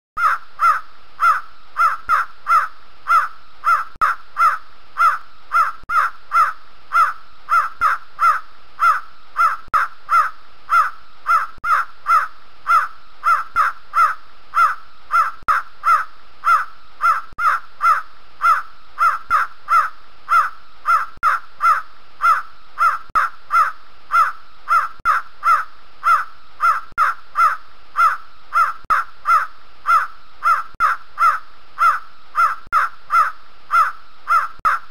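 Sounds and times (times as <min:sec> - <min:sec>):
partridge calling: 0:00.2 - 0:34.9.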